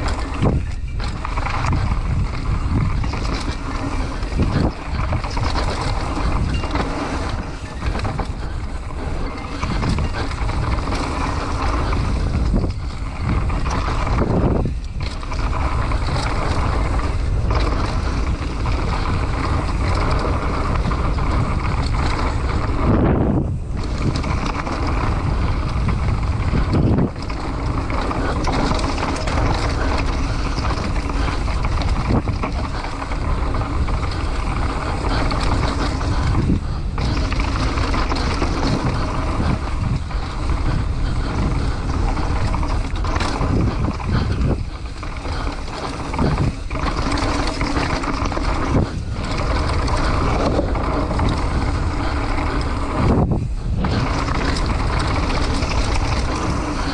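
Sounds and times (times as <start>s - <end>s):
tyres rumbling on dirt: 0.0s - 56.9s
wind buffeting on microphone: 0.0s - 56.9s.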